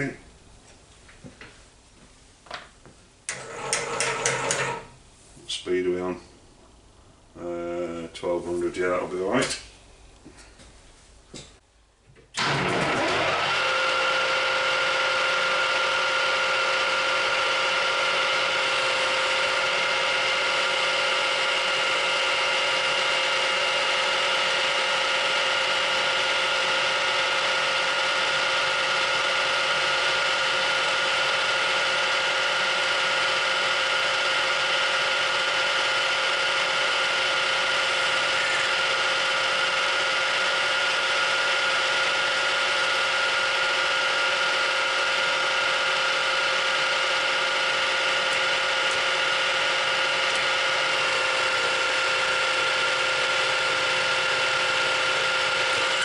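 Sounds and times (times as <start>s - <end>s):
metal lathe whining: 3.3s - 4.8s, 12.4s - 56.0s.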